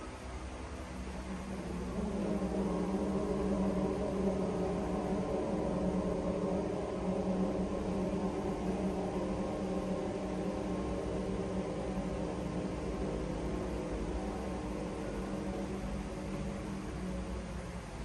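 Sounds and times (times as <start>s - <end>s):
constant hiss: 0.0s - 18.0s
machine hum with held tones: 0.0s - 18.0s.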